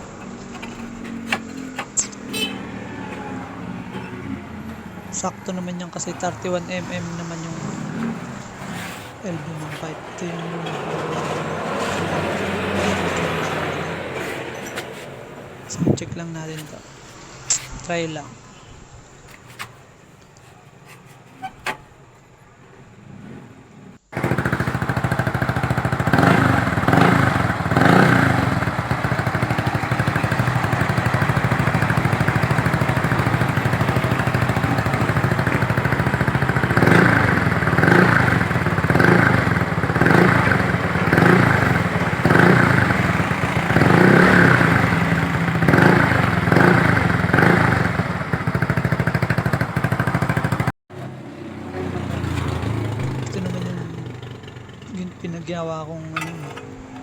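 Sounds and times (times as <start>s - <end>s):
scooter engine idling: 0.0s - 17.4s, 23.6s - 57.0s
scooter throttle blips: 0.0s - 17.8s, 24.0s - 57.0s.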